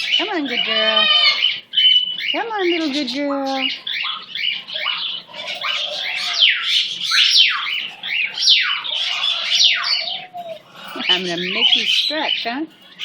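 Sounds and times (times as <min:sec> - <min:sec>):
young bird squawking: 0:00.0 - 0:13.0.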